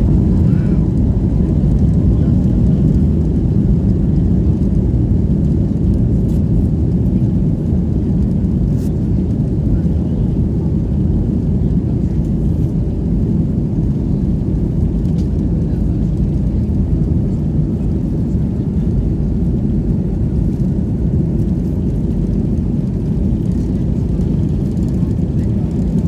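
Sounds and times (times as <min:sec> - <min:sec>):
jet engines low rumble: 0:00.0 - 0:26.0.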